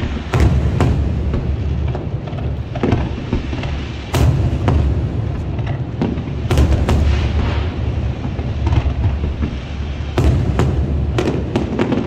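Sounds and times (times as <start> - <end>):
fireworks bangs: 0.0 - 12.0
rumble of booming explosions: 0.0 - 12.0.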